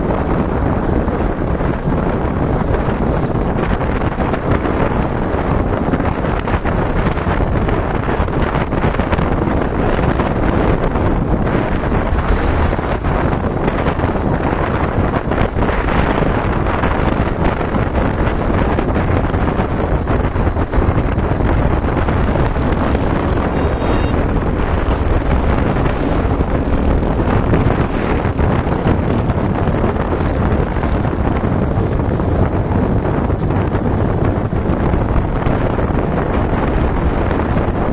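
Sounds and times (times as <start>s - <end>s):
motorcycle running: 0.0s - 37.9s
wind buffeting microphone: 0.0s - 37.9s.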